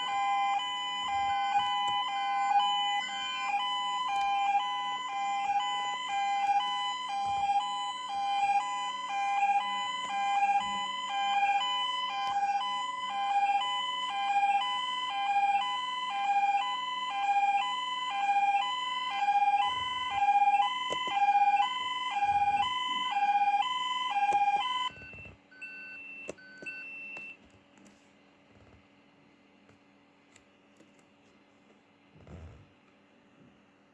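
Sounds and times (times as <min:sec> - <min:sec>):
fire alarm two-tone sounder: 0:00.0 - 0:27.4.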